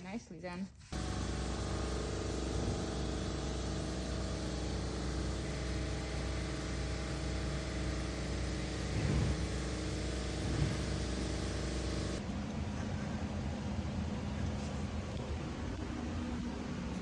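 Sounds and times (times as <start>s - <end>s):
engine drone: 0.9s - 17.0s.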